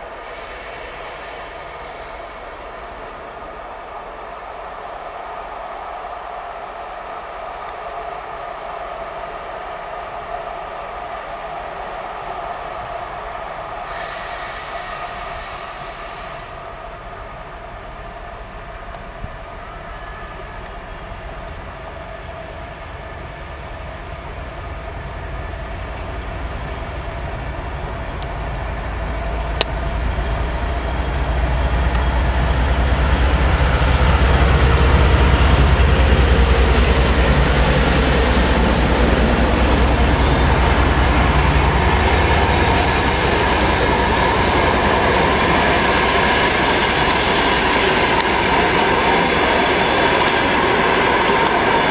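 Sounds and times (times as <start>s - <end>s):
diesel locomotive engine droning: 0.0s - 51.9s
train coaches rumbling on rails: 0.0s - 51.9s.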